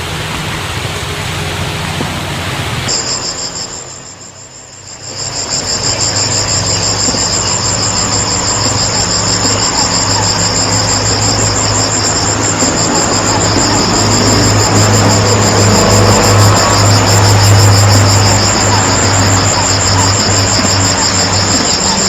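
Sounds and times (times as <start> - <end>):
low engine-like drone: 0.0 - 22.0
insects trilling: 2.9 - 22.0.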